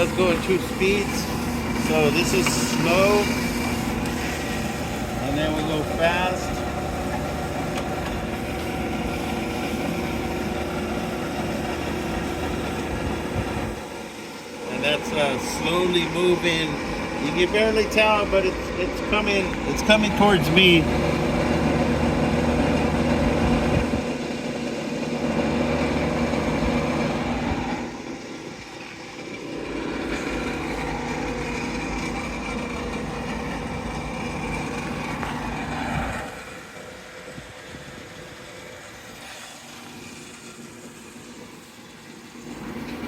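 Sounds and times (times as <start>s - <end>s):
brake lathe motor humming: 0.0s - 43.0s.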